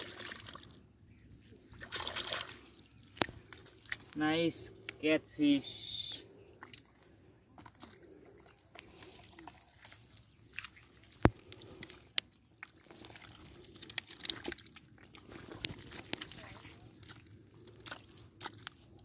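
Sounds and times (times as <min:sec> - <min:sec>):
hands squelching in wet mud: 0:00.0 - 0:05.0, 0:06.3 - 0:19.0.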